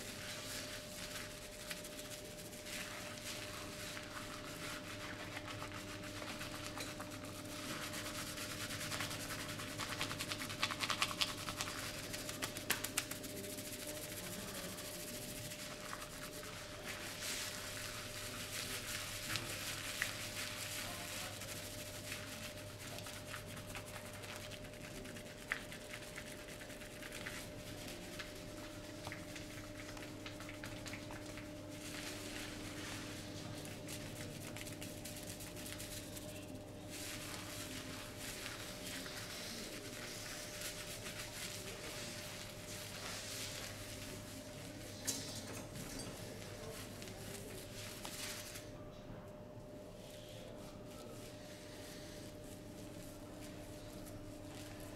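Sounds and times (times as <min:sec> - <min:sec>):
hands rubbing skin: 0:00.0 - 0:44.2.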